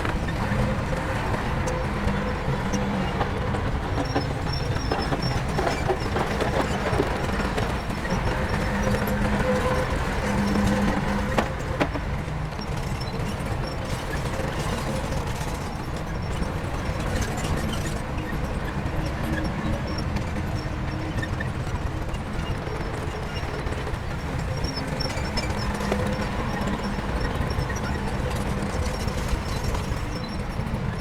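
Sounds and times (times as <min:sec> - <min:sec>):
diesel machinery engine rumble: 0:00.0 - 0:31.0.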